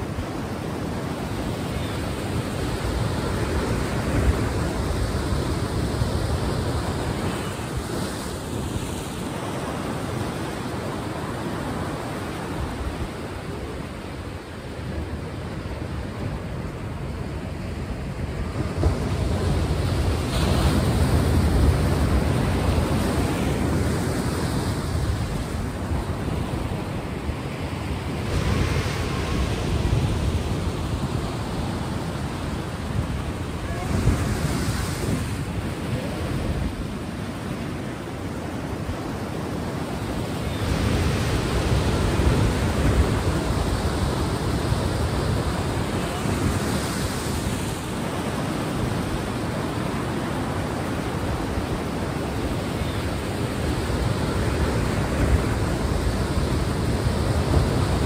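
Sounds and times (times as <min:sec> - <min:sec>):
sea waves washing ashore: 0:00.0 - 0:58.0.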